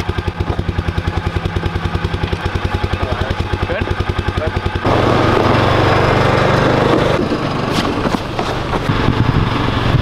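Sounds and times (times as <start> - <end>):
vehicle engine idling and revving: 0.0 - 10.0.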